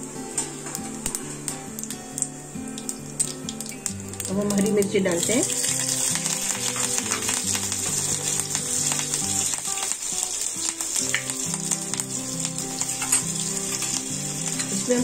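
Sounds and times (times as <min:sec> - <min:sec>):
chillies sizzling in hot oil: 0:00.0 - 0:15.0.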